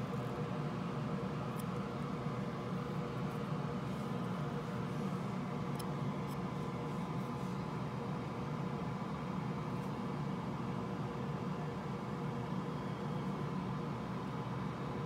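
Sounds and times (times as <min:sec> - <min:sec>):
faint steady whine: 0:00.0 - 0:15.0
low mechanical hum with hiss: 0:00.0 - 0:15.0.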